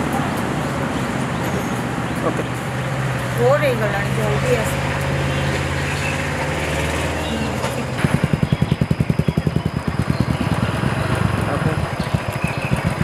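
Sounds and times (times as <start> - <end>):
motorcycle engine running: 1.8 - 13.0.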